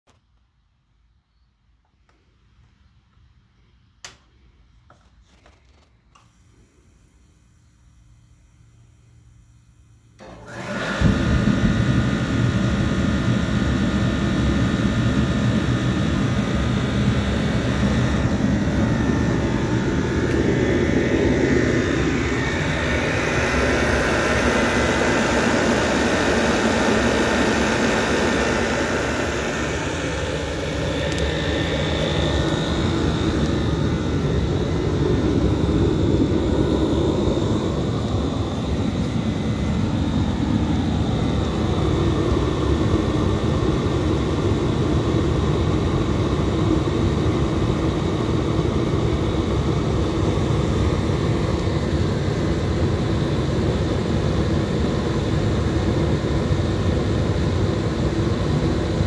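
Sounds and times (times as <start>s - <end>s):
forced-air heater roaring: 4.0s - 59.0s.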